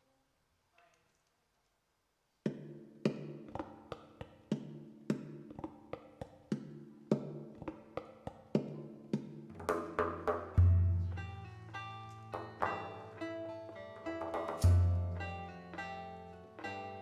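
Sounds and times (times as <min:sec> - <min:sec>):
plucked notes over held tones: 0:02.5 - 0:17.0.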